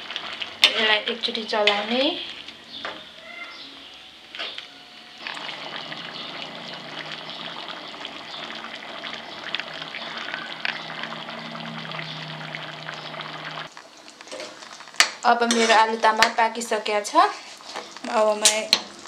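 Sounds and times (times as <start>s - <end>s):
curry bubbling and sizzling: 0.0s - 3.2s, 3.8s - 19.0s.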